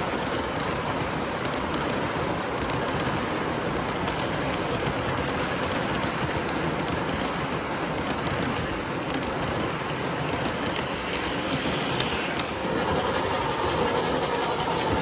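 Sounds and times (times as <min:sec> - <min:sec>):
model train wheels rumbling: 0:00.0 - 0:15.0.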